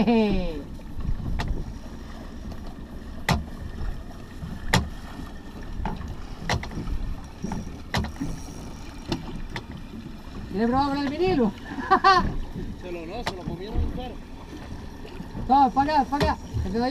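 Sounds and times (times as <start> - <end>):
wind and water noise: 0.0 - 16.9
boat knocking sharply: 0.7 - 16.9.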